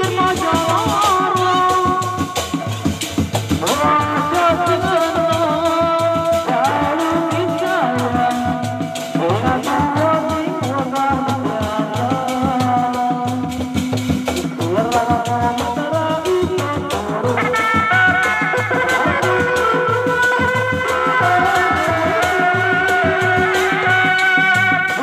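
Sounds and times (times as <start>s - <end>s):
hand drums in quick rhythm: 0.0s - 25.0s.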